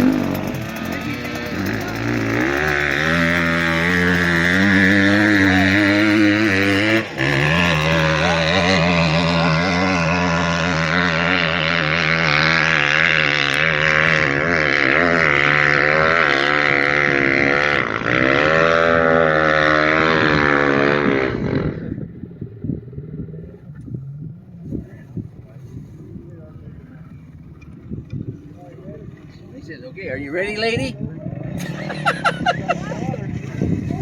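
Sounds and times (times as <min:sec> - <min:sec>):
off-road vehicle engine revving: 0:00.0 - 0:34.0.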